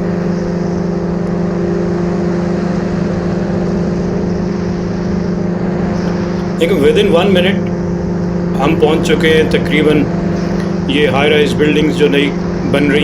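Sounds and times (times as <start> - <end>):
propeller engine drone: 0.0 - 13.0.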